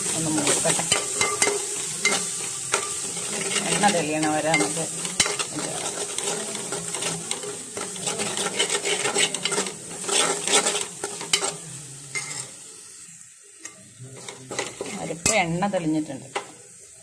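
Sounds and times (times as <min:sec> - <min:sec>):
ladle scraping pan: 0:00.0 - 0:12.6, 0:14.1 - 0:15.4
paste sizzling in hot oil: 0:00.0 - 0:17.0.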